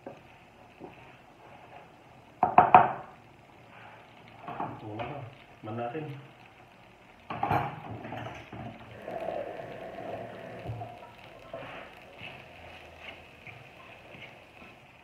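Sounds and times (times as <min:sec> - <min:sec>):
spaghetti sizzling in frying pan: 0:00.0 - 0:15.0.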